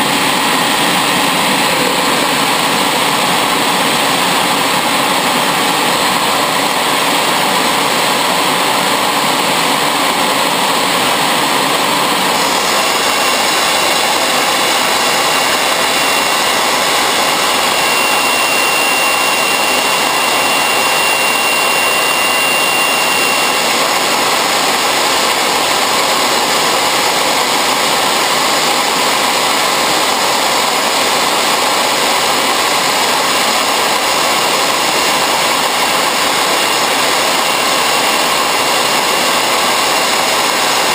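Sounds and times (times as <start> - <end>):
faint high whine: 0.0 - 40.9
turbojet engine rushing: 0.0 - 40.9.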